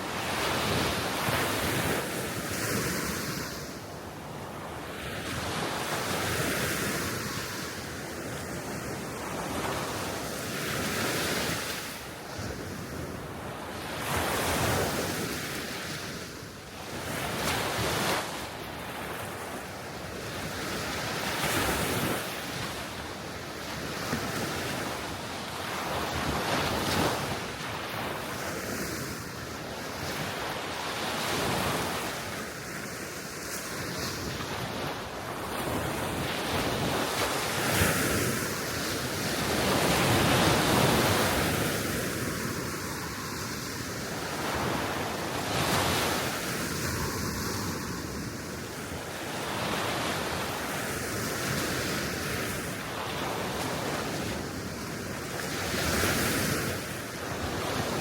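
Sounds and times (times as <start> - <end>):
sea waves washing onto shore: 0.0 - 58.0
wind blowing across microphone: 0.0 - 58.0.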